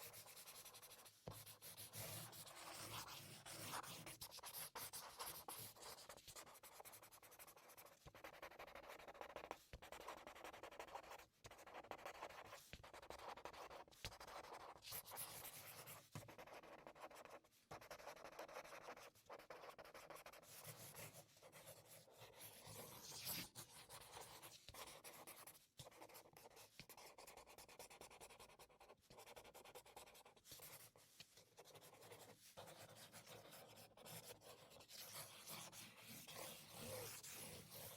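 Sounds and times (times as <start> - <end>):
marker pen scratching: 0.0 - 37.9.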